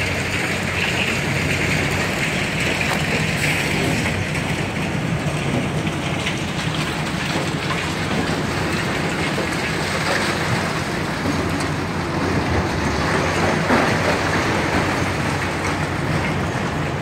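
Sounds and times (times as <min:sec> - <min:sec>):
excavator diesel engines: 0:00.0 - 0:17.0.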